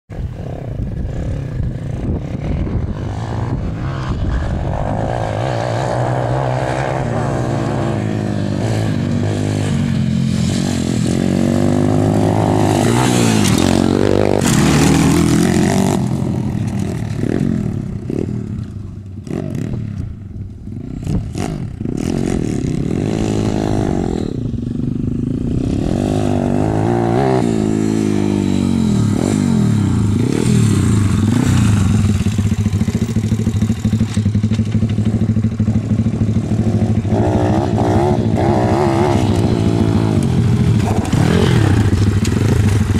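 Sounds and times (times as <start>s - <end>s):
dirt bike engines revving: 0.1s - 42.9s.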